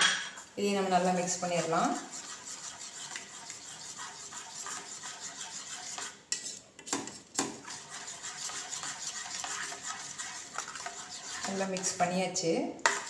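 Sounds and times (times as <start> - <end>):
metal spoon stirring in a bowl: 0.0 - 13.0.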